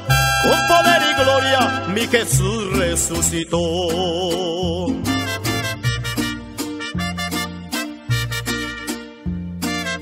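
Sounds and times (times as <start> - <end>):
latin band playing: 0.0 - 10.0.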